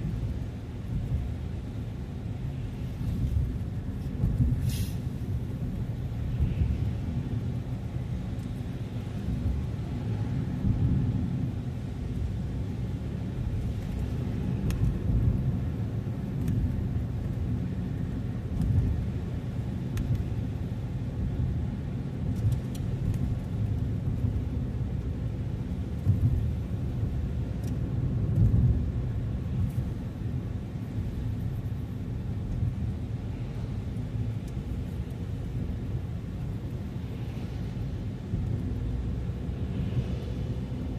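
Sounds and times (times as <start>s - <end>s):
car tyres and engine rumbling: 0.0s - 40.9s.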